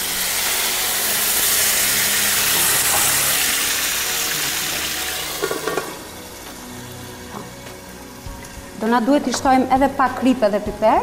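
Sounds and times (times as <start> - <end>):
wine sizzling in a hot pan: 0.0 - 11.0.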